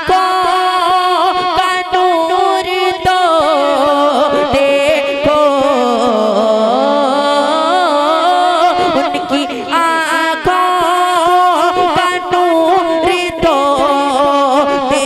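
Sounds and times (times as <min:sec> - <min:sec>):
man singing devotional poem: 0:00.0 - 0:15.0.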